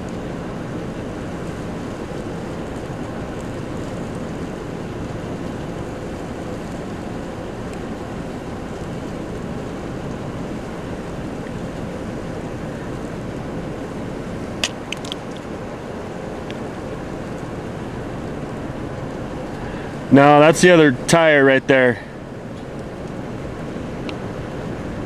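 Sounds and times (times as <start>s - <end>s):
large fire rushing: 0.0s - 25.0s.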